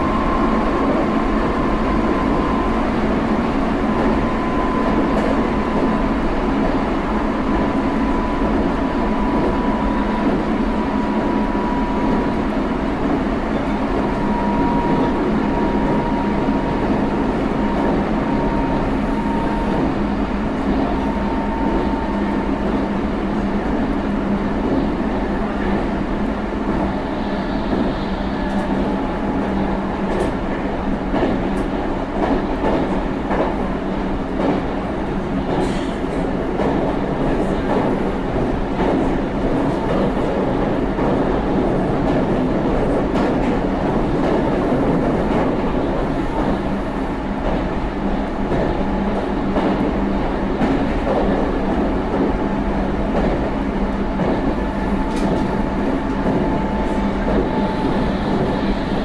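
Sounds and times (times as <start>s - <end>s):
train wheel and rail noise: 0.0s - 59.0s.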